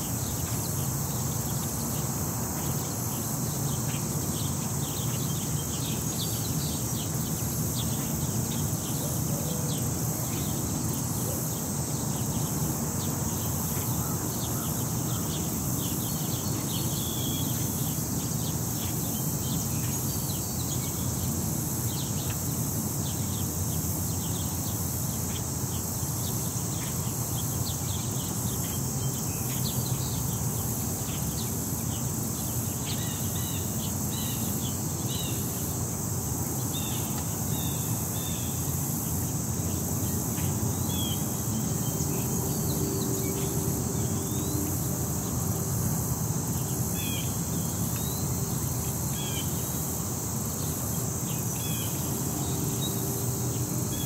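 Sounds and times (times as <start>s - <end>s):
low rumble of city traffic: 0.0s - 54.0s
shrill insect chorus: 0.0s - 54.0s.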